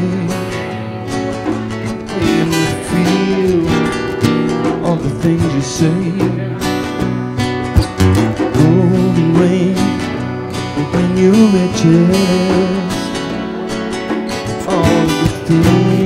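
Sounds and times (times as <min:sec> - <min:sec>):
two strummed guitars: 0:00.0 - 0:16.0.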